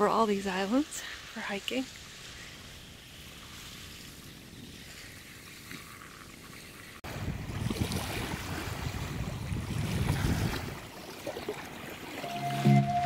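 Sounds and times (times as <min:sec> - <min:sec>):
waves lapping on pebble shore: 0:00.3 - 0:12.6.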